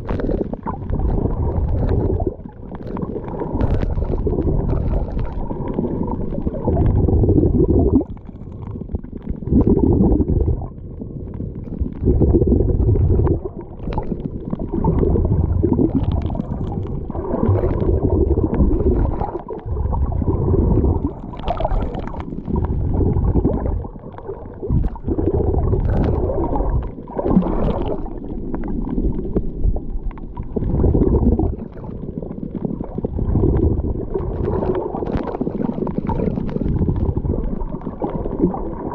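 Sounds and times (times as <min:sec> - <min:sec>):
muffled rumble of sea water: 0:00.0 - 0:38.9.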